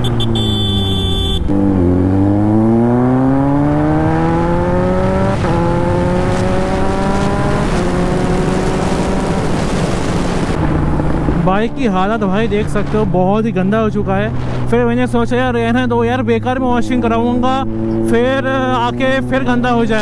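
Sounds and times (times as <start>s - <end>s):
motorcycle engine accelerating: 0.0s - 13.4s, 16.3s - 20.0s.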